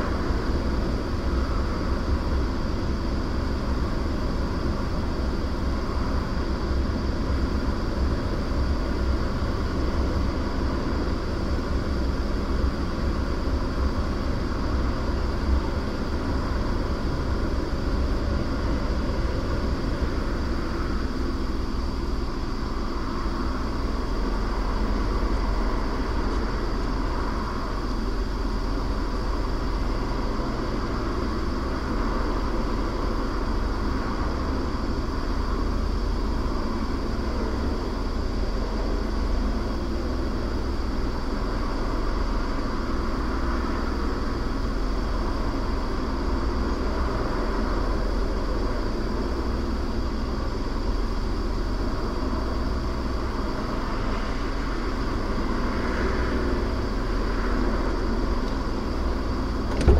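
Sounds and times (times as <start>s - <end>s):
car engine hum: 0.0s - 59.9s.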